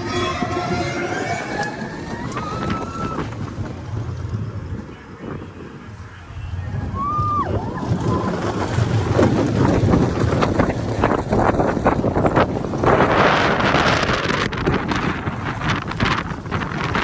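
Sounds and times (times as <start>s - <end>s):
roller coaster train rumbling: 0.0s - 17.0s
wind buffeting microphone: 0.0s - 17.0s.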